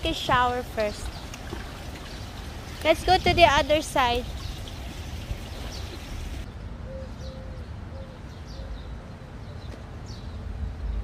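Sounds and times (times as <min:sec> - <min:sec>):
birds chirping: 0:00.0 - 0:10.5.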